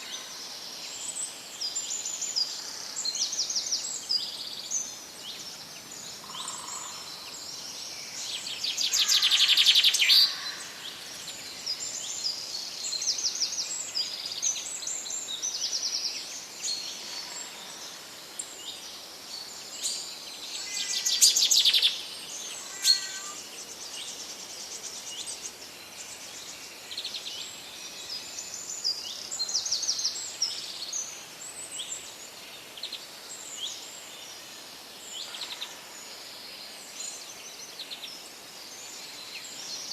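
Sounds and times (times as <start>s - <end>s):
faint background hiss: 0.0s - 39.9s
songbirds chirping and singing: 0.9s - 34.4s.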